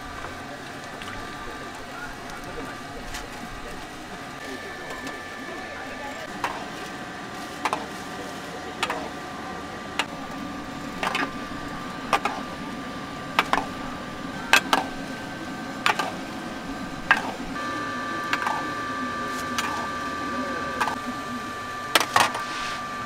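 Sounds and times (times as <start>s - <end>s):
steady high hum: 0.0s - 23.0s.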